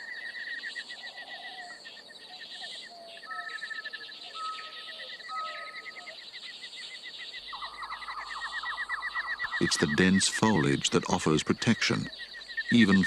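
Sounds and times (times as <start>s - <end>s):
birds calling: 0.0s - 13.0s
high insect trill: 0.0s - 13.0s.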